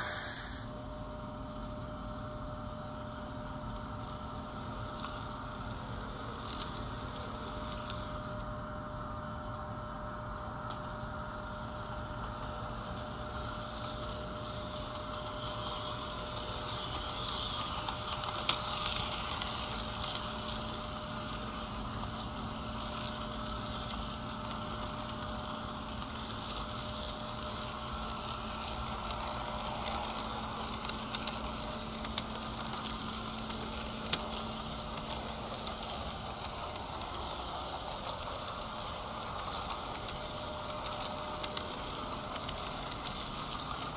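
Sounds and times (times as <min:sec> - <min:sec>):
model train humming and rolling: 0:00.0 - 0:43.9.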